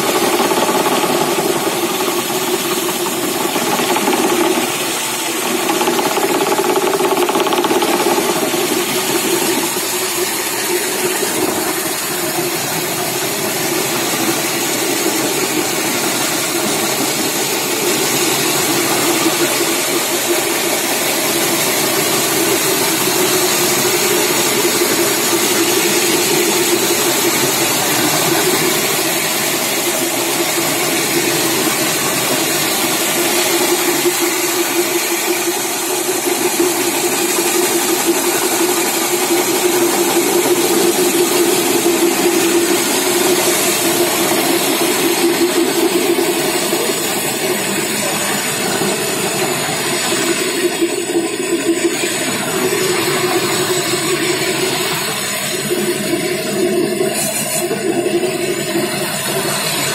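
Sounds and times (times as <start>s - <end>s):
floor grinding machine running: 0.0s - 59.9s.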